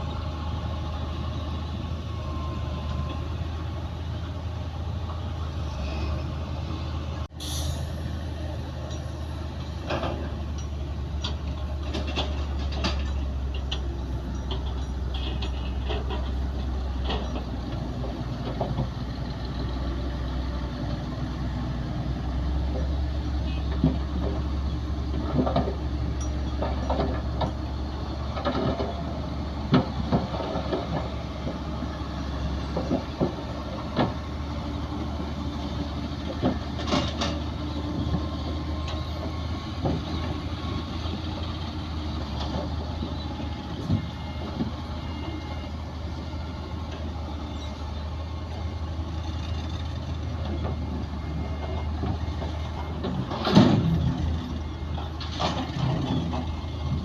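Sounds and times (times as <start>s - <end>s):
heavy machinery engine drone: 0.0s - 57.0s.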